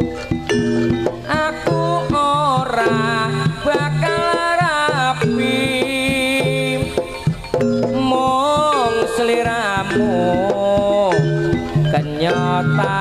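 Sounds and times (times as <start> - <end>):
drum strokes: 0.0 - 13.0
wavering lead melody: 0.0 - 13.0.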